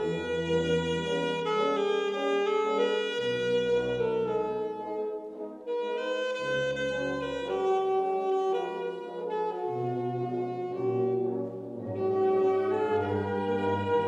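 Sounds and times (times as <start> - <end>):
alto saxophone melody: 0.0 - 14.0
wind band accompanying: 0.0 - 14.0.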